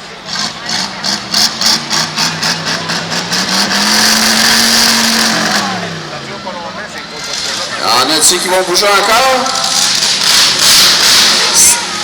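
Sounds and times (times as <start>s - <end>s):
car engine revving: 0.0s - 7.8s, 9.4s - 12.0s.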